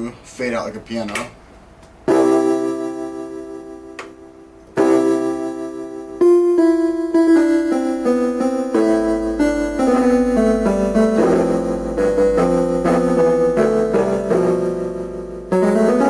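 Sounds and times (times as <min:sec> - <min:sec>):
electronic keyboard piano notes: 0:02.0 - 0:16.0.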